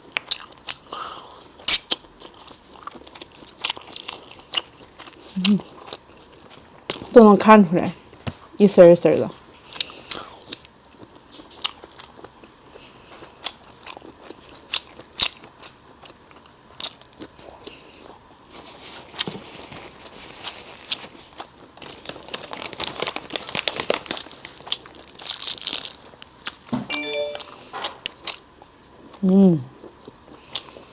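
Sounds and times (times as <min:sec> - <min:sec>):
person chewing: 0:00.0 - 0:07.2, 0:09.4 - 0:30.9.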